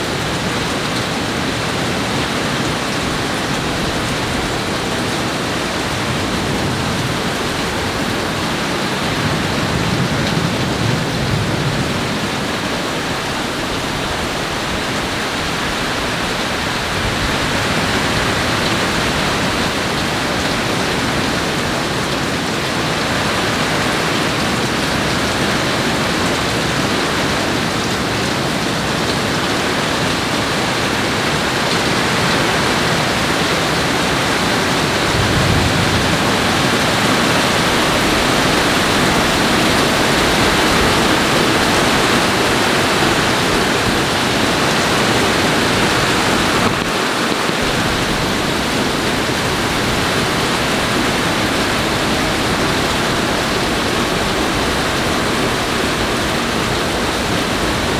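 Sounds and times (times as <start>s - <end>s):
creek water rushing: 0.0s - 57.9s
heavy rain: 0.0s - 57.9s.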